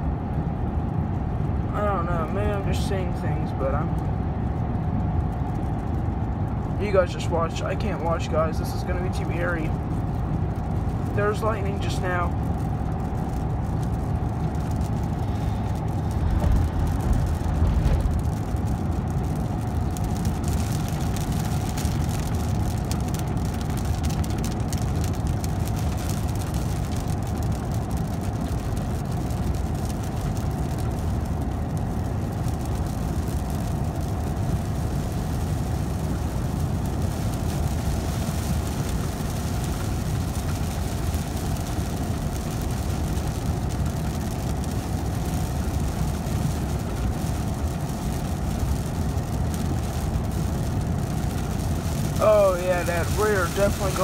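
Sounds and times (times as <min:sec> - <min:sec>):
faint steady whine: 0:00.0 - 0:54.0
low rumble: 0:00.0 - 0:54.0
road noise: 0:00.0 - 0:54.0
truck engine drone: 0:00.0 - 0:54.0.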